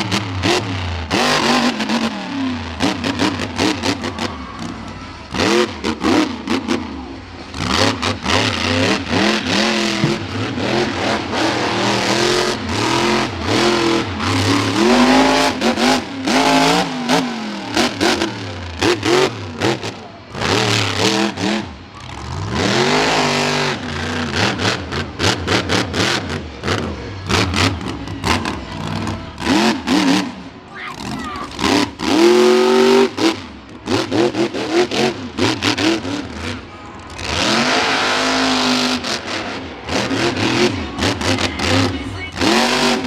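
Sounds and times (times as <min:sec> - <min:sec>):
monster truck engine revving: 0:00.0 - 0:43.0.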